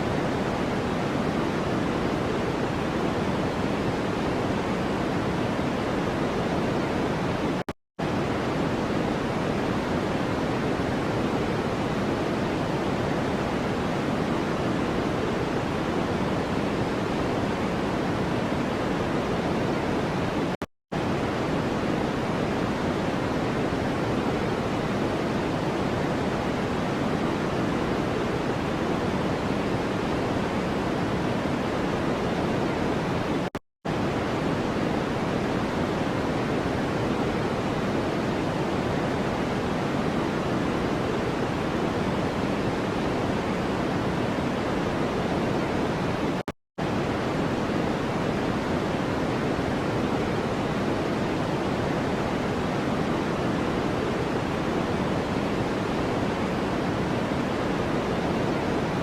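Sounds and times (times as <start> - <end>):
electronic white noise hiss: 0.0 - 59.0.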